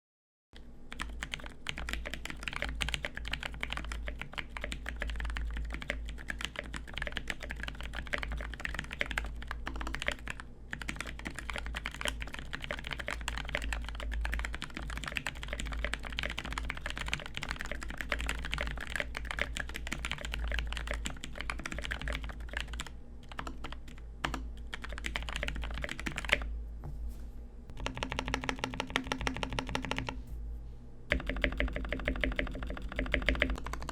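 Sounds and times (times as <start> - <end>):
mechanical keyboard typing: 0.9 - 26.5, 27.8 - 30.2, 31.1 - 33.9.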